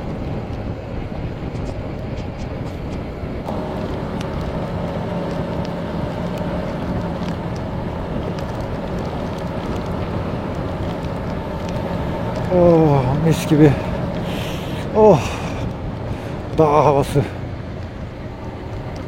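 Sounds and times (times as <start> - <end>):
wind rushing over microphone: 0.0 - 19.0
motorcycle engine running: 3.4 - 19.0.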